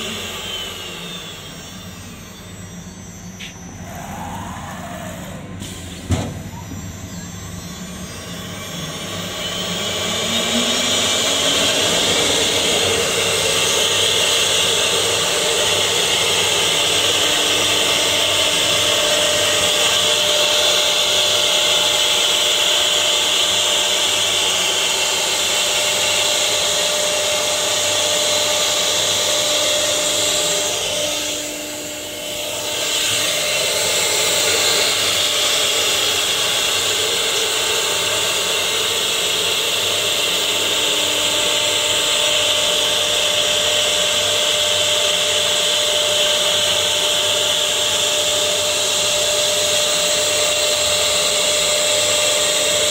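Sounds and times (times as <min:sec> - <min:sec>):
router cutting wood: 0:00.0 - 0:52.9
wood router spindle whine: 0:00.0 - 0:52.9.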